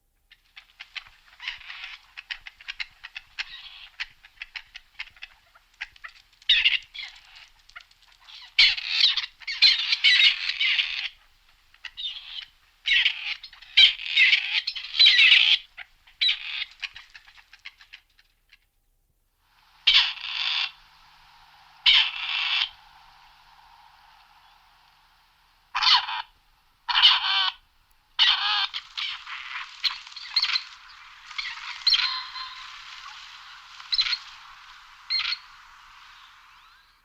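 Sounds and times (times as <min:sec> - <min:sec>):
partridge calling: 0:00.5 - 0:18.3, 0:19.7 - 0:37.0.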